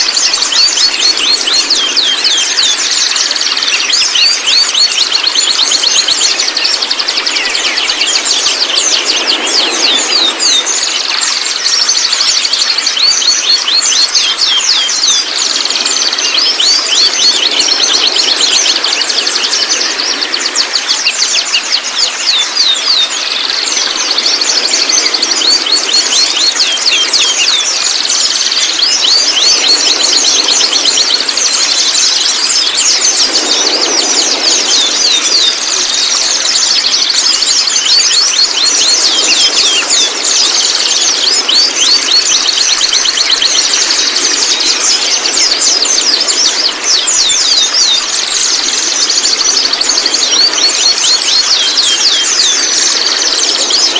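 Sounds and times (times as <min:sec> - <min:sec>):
bird singing and chattering: 0:00.0 - 0:53.9.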